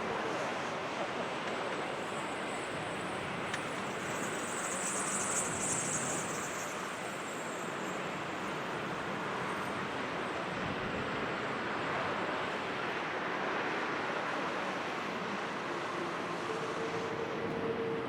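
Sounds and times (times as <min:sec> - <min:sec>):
distant jet engines roaring: 0:00.2 - 0:18.0.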